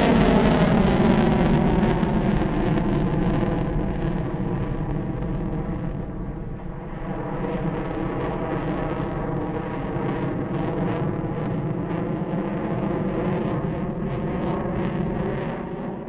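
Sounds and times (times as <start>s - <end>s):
aircraft engine roar: 0.0s - 16.0s.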